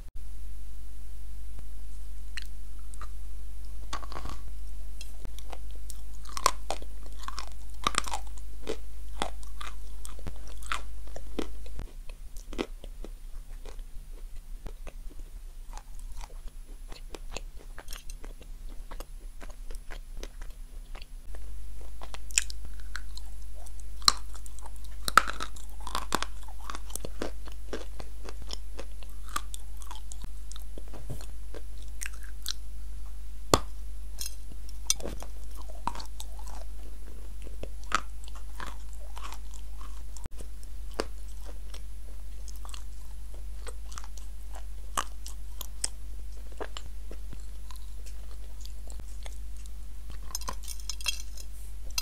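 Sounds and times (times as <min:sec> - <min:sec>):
steady low hum: 0:00.0 - 0:52.0
crunchy eating and chewing: 0:02.3 - 0:52.0.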